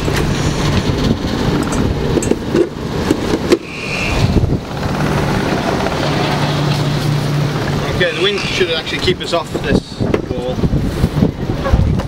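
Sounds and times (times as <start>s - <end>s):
boat engine running: 0.0s - 12.0s
wind noise on microphone: 0.0s - 12.0s.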